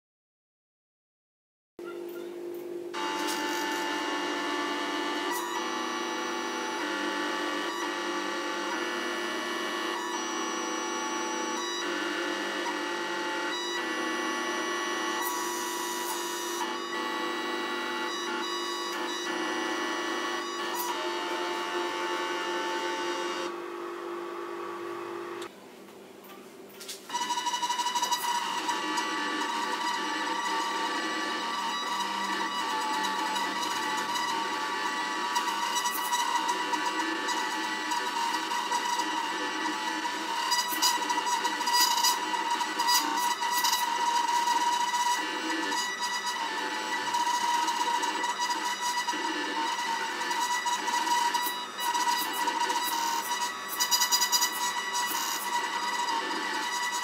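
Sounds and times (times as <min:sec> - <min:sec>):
stepper motors whining: 0:02.9 - 0:25.5, 0:27.1 - 0:57.0.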